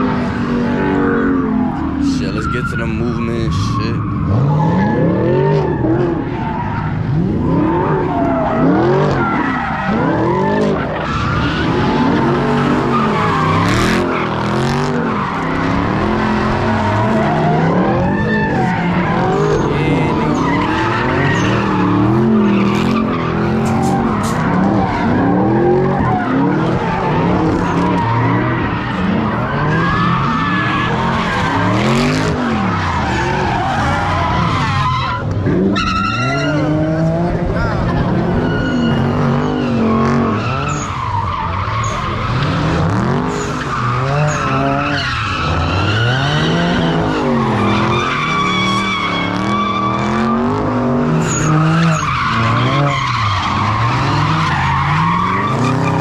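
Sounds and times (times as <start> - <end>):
car engine revving: 0.0 - 56.0
tires skidding and squealing: 0.0 - 56.0.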